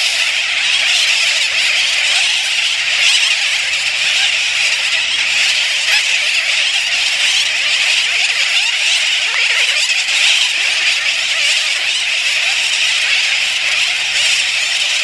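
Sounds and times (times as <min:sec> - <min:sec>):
seabird colony calling: 0:00.0 - 0:15.0.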